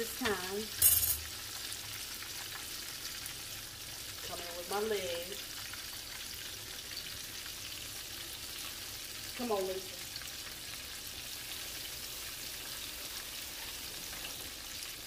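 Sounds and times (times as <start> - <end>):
deep-frying sizzle: 0.0 - 15.0.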